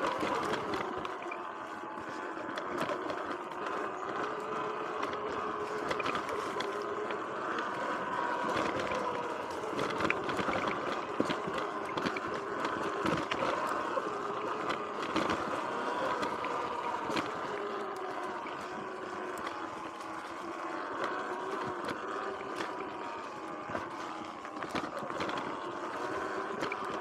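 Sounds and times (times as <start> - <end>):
electric motor whine: 0.0 - 27.0.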